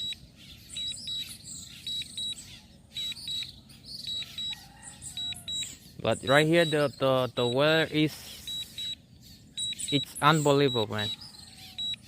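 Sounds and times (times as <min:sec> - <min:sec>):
birds chirping: 0:00.0 - 0:12.0
remote controller beeping: 0:00.0 - 0:12.0.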